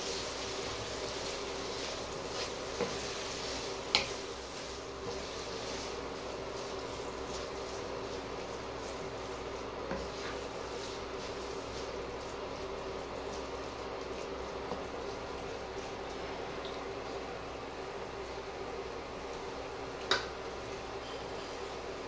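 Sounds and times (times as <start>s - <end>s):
paste sizzling in a wok: 0.0s - 22.0s.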